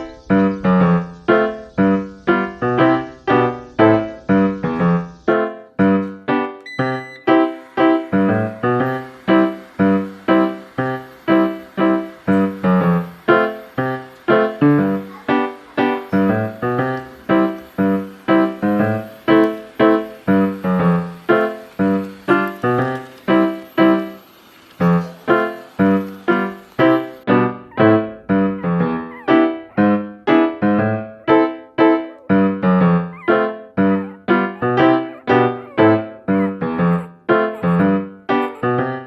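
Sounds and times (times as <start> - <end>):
bouncy piano tune: 0.0 - 39.0.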